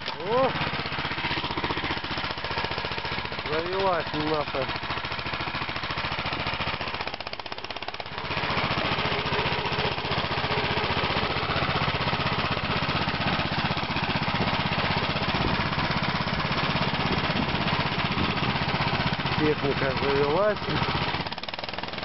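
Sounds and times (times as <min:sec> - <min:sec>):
small engine pulsing: 0:00.0 - 0:22.0.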